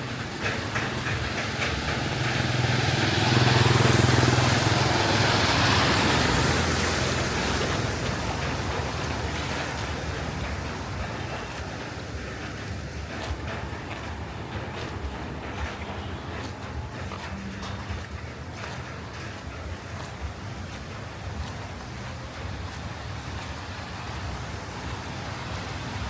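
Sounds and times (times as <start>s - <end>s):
car engine passing: 0.0s - 22.5s
tyres hissing through water: 0.0s - 26.0s.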